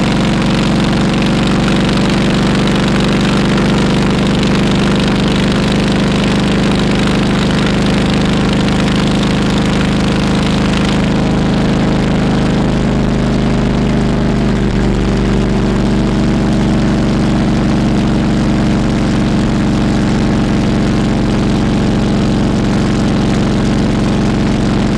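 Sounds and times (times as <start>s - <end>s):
motorcycle engine running steadily: 0.0s - 24.9s.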